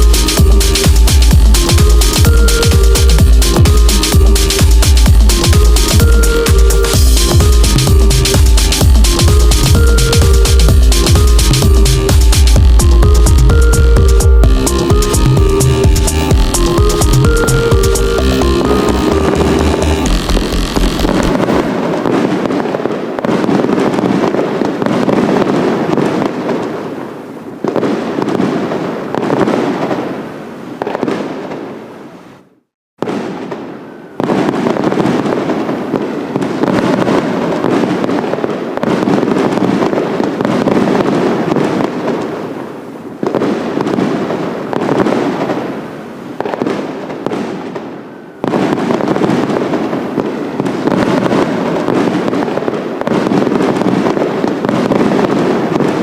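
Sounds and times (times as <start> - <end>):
fireworks booming and crackling: 0.0 - 31.8, 33.0 - 56.0.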